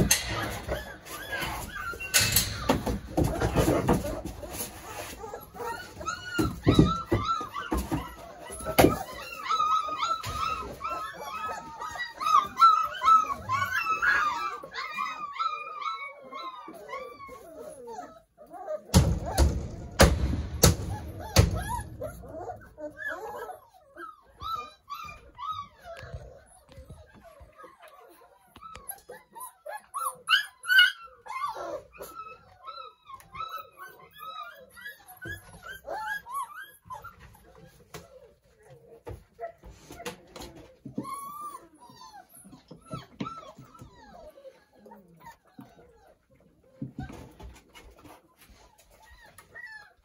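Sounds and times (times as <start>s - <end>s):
puppies whining and squealing: 0.0s - 50.0s.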